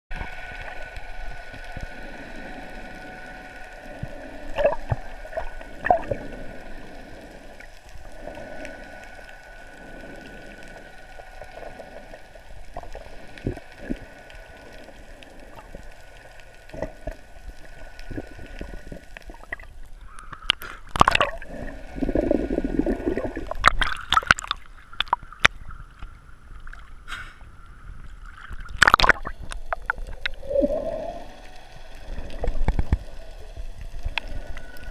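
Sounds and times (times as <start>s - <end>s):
water splashing: 0.1s - 20.0s, 20.9s - 27.0s, 28.0s - 34.9s
muffled underwater gurgling: 0.1s - 26.4s, 27.0s - 34.9s.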